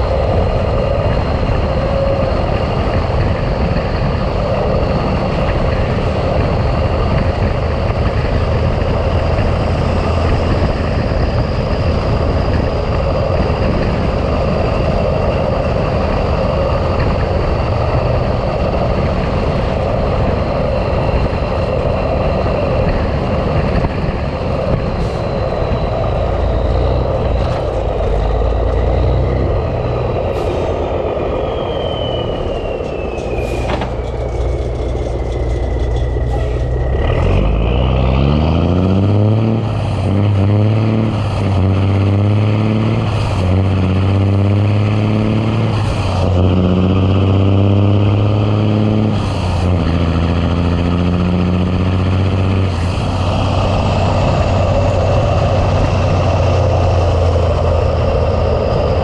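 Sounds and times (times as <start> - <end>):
diesel truck engine: 0.0 - 59.0
high whine falling in pitch: 0.0 - 59.0.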